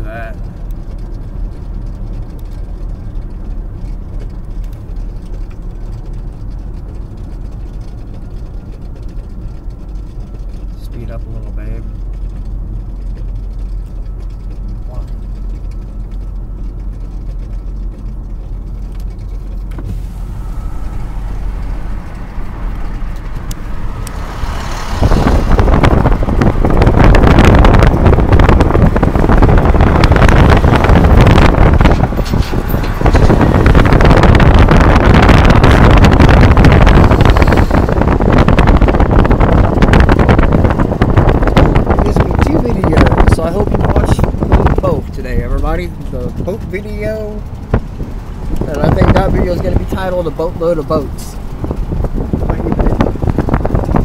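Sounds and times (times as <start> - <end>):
car cabin hum: 0.0 - 54.0
wind and road noise: 0.0 - 54.0.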